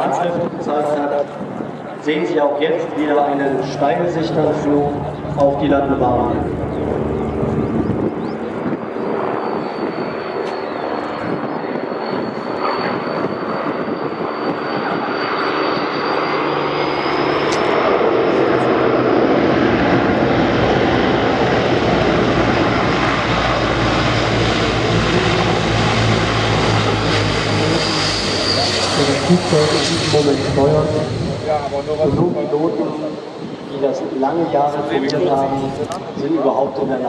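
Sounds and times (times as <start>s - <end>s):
propeller drone: 0.0s - 37.0s
turbine whine: 0.0s - 37.0s.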